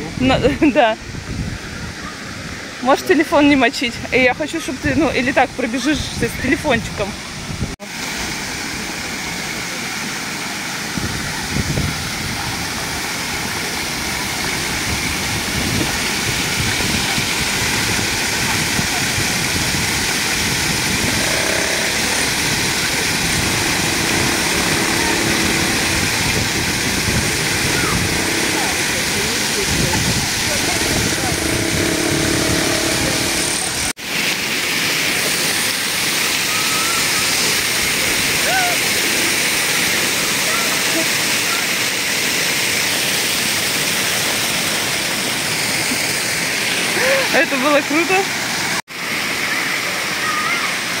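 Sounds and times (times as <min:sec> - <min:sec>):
fountain water splashing on pavement: 0:00.0 - 0:51.0.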